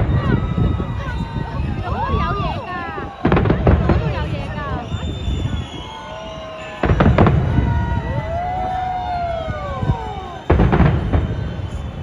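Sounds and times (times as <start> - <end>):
firework bangs: 0.0 - 12.0
whistling fireworks: 0.0 - 12.0.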